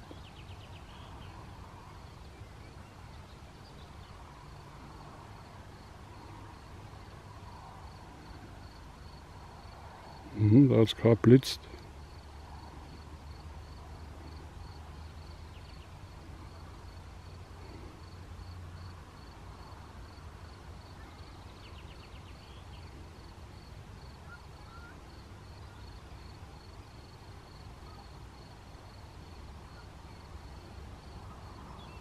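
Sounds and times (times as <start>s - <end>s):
cricket chirping: 3.9s - 10.7s, 11.8s - 32.0s.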